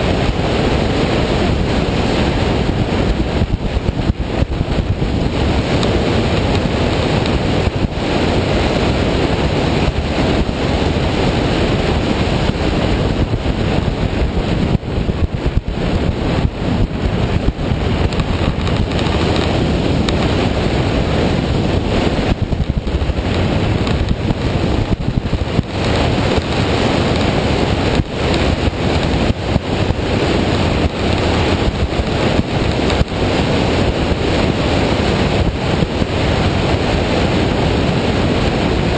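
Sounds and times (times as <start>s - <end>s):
motorcycle engine: 0.0s - 38.9s
road noise: 0.0s - 38.9s
wind buffeting microphone: 0.0s - 38.9s.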